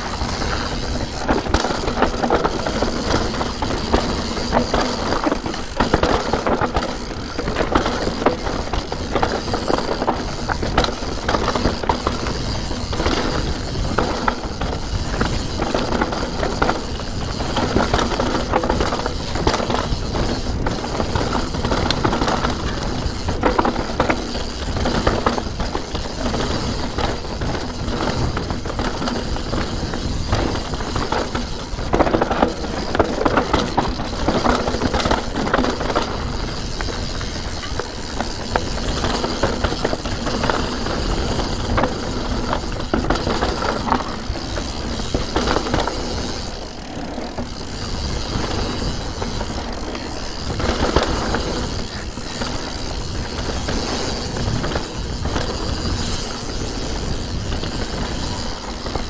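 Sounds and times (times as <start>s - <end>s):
bike chain knocking and rattling: 0.0s - 59.0s
bike tyres rolling over dirt: 0.0s - 59.0s.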